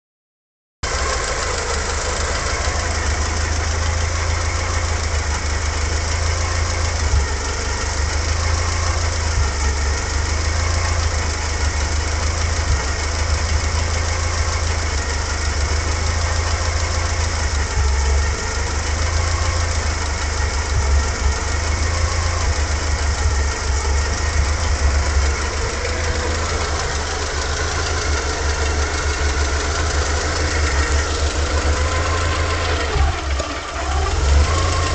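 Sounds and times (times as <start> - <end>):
car engine idling: 0.8 - 34.9.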